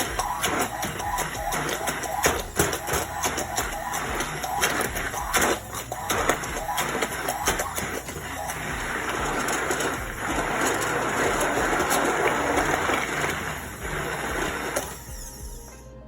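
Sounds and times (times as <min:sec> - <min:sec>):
thick liquid churning: 0:00.0 - 0:15.0
immersion blender whirring: 0:00.0 - 0:15.2.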